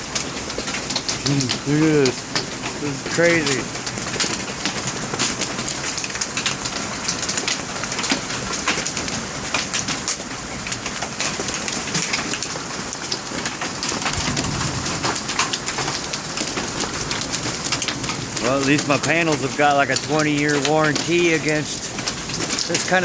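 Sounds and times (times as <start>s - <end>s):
hail clattering: 0.0s - 23.0s
heavy rain hissing: 0.0s - 23.0s.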